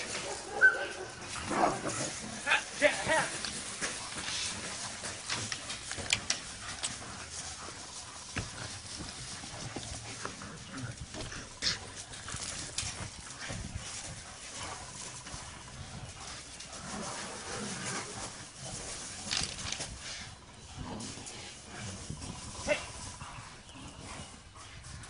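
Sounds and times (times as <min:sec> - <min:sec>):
dogs fighting: 0:00.0 - 0:25.0.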